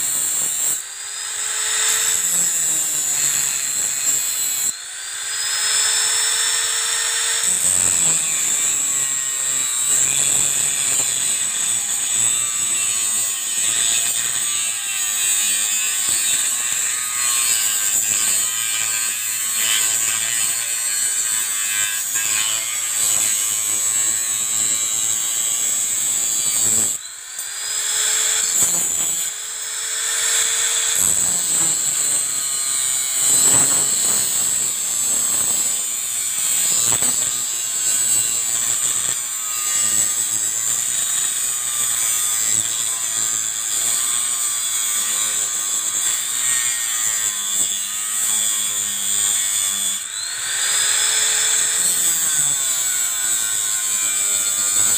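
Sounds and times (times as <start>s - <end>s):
angle grinder cutting steel: 0.0s - 54.9s.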